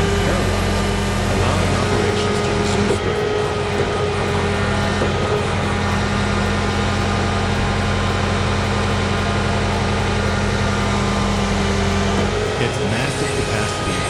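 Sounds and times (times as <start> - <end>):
large engine humming: 0.0 - 14.0.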